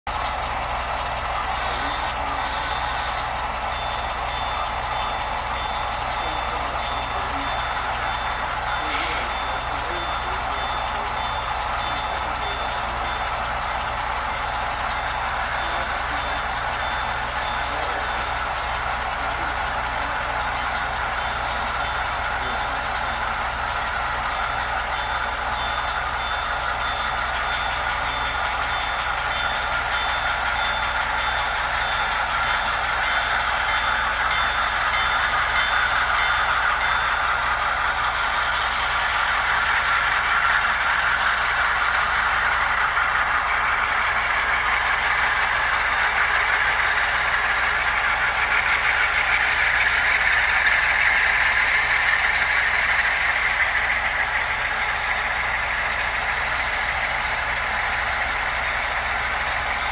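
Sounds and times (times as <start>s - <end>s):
model train wheels rolling: 0.5s - 59.9s.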